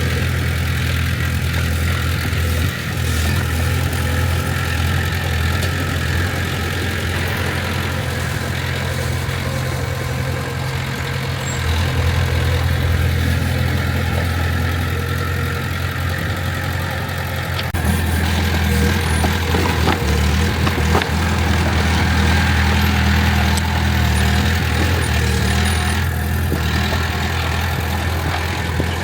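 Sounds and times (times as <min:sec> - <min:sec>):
diesel machinery engine hum: 0:00.0 - 0:29.0.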